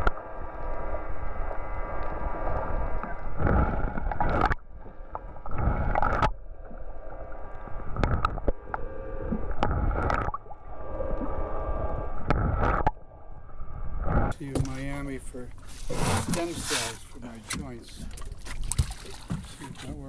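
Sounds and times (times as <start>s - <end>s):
water rushing underwater: 0.0s - 19.8s.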